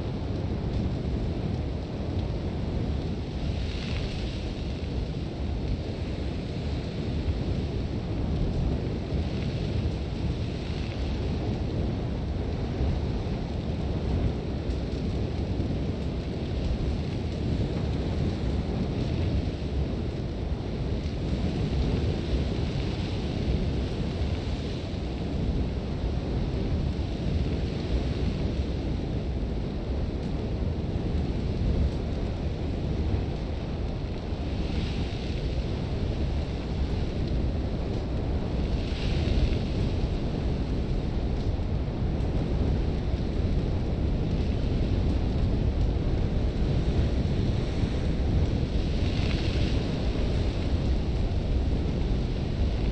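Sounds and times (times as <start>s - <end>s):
gusting wind rumble: 0.0s - 52.9s.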